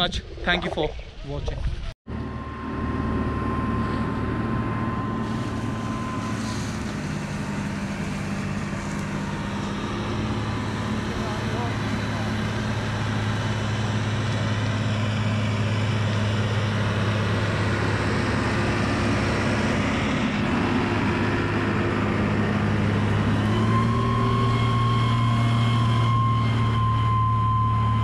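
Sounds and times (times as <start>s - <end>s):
fire truck engine humming: 2.1s - 28.0s
high whine: 2.1s - 28.0s.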